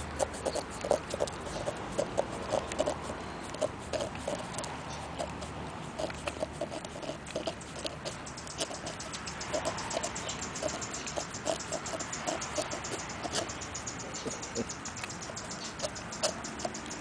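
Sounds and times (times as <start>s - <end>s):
dog licking and lapping: 0.2s - 16.9s.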